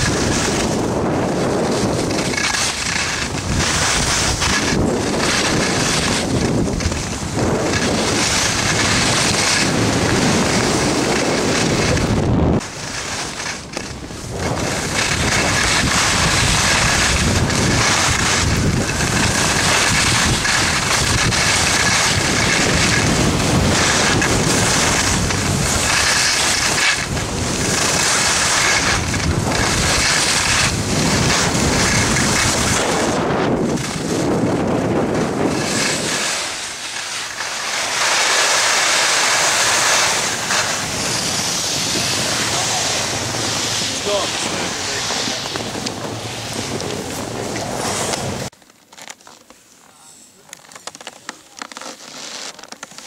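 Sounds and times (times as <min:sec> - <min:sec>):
skis hissing over snow: 0:00.0 - 0:48.5, 0:49.5 - 0:53.0
wind buffeting microphone: 0:00.0 - 0:48.5.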